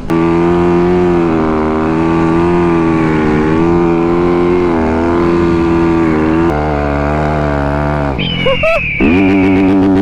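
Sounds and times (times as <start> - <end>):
dirt bike engine revving high: 0.0 - 10.0.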